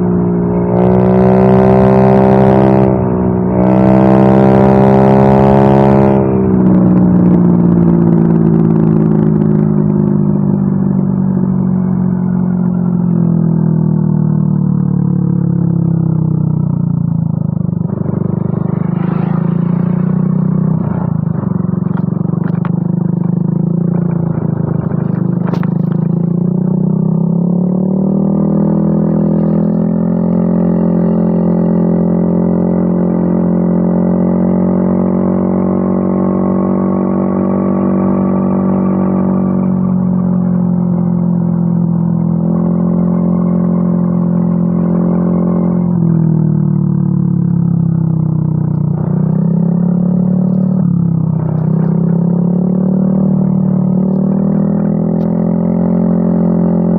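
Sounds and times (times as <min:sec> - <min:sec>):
scooter engine running: 0:06.2 - 0:56.9.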